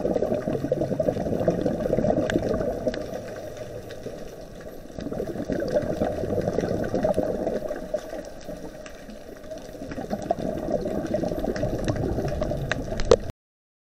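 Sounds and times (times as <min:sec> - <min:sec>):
diver's exhaled breath bubbling: 0:00.0 - 0:13.3
underwater clicks: 0:00.0 - 0:13.3.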